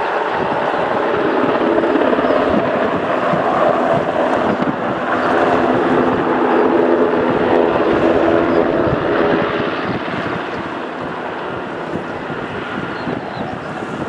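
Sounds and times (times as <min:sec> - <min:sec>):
helicopter engine whine: 0:00.0 - 0:14.0
helicopter rotor noise: 0:00.0 - 0:14.0.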